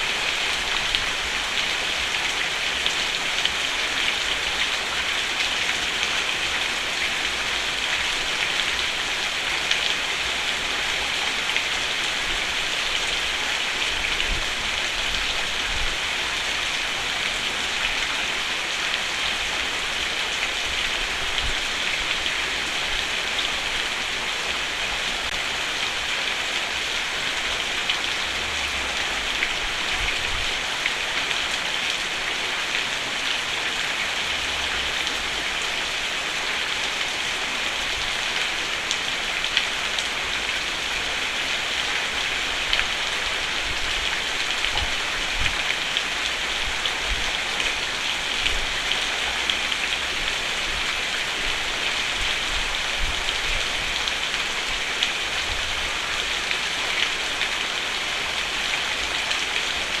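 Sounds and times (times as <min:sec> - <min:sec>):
rain falling on a roof: 0:00.0 - 1:00.0.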